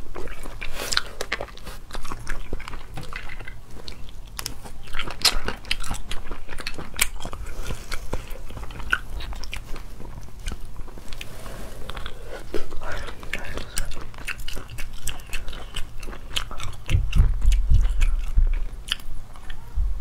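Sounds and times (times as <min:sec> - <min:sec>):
sucking and chewing: 0:00.0 - 0:19.7.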